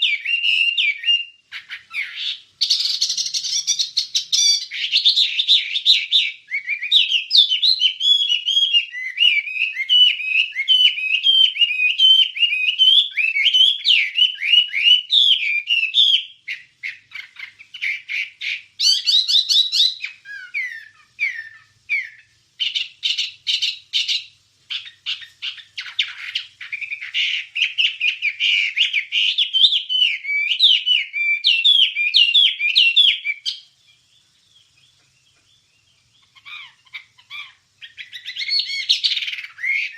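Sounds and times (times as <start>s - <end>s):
songbird singing chirps: 0.0s - 39.9s.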